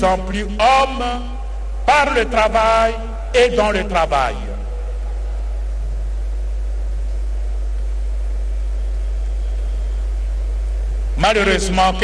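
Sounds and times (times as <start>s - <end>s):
faint background hiss: 0.0s - 12.0s
low mains hum: 0.0s - 12.0s.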